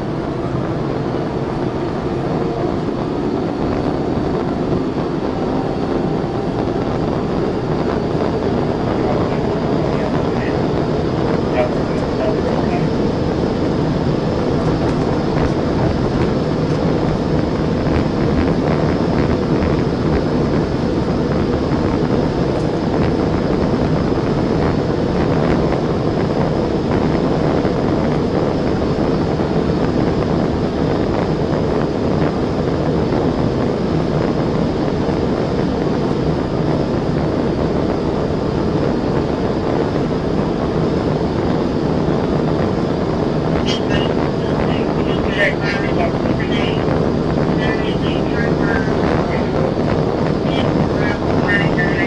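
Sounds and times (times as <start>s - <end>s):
car engine running: 0.0s - 28.8s, 32.0s - 52.0s
road and wind noise: 0.0s - 52.0s.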